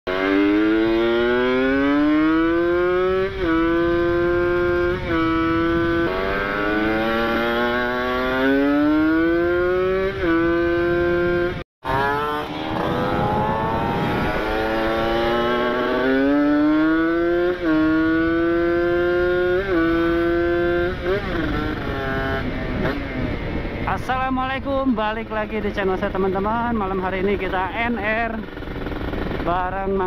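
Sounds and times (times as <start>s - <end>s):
motorcycle engine accelerating: 0.1s - 30.0s.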